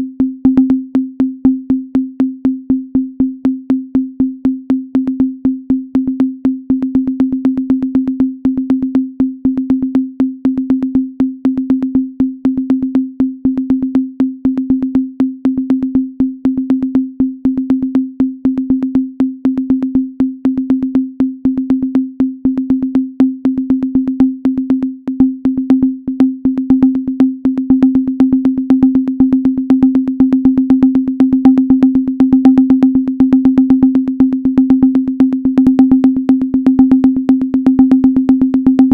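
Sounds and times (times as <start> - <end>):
pulsing low sine tone: 0.0 - 38.9.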